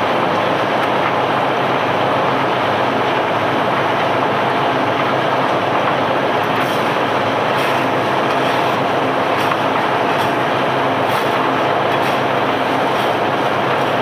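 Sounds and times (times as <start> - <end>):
loud machinery noise: 0.0 - 14.0.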